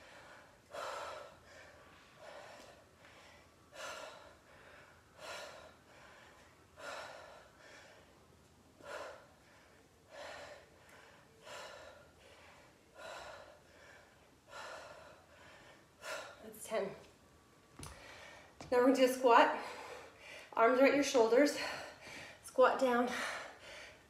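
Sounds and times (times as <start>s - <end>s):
quiet breathing: 0.0s - 16.7s, 17.3s - 18.7s, 19.5s - 20.6s, 21.5s - 24.0s.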